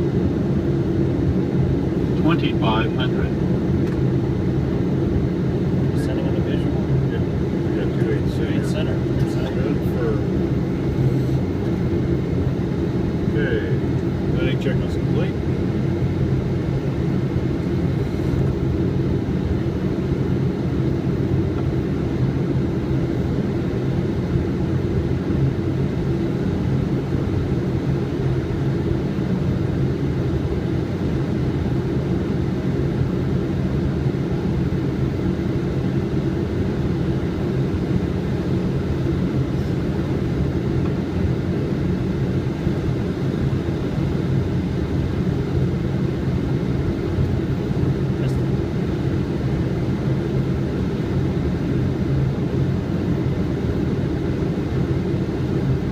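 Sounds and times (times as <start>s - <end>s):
airflow and engine rush: 0.0s - 55.9s
low multi-tone hum: 0.0s - 55.9s.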